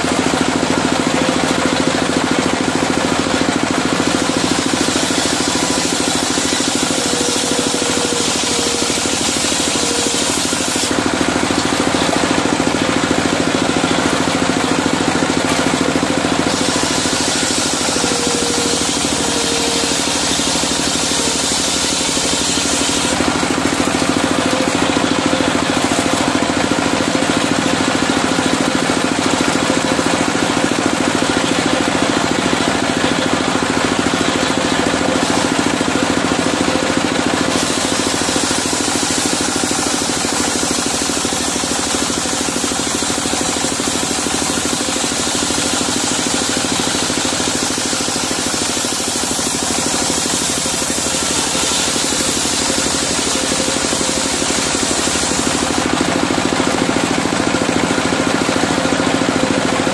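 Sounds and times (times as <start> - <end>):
diesel engine driving a saw: 0.0 - 59.9.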